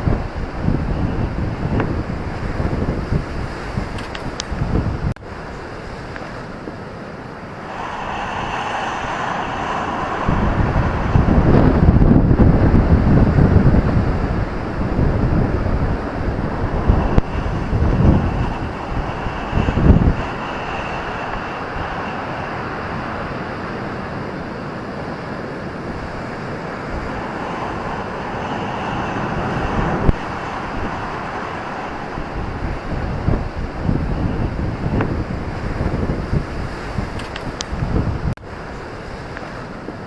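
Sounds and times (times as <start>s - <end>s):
ocean surf washing on beach: 0.0s - 40.0s
wind buffeting microphone: 0.0s - 40.0s.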